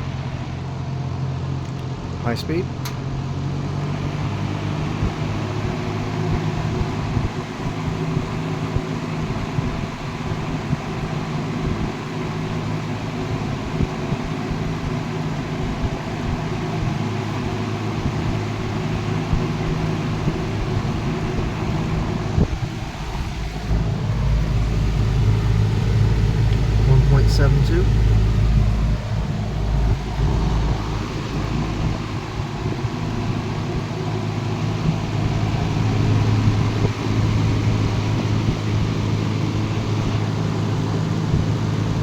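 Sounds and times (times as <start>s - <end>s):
air rushing from fan blades: 0.0s - 42.0s
box fan motor humming: 0.0s - 42.0s.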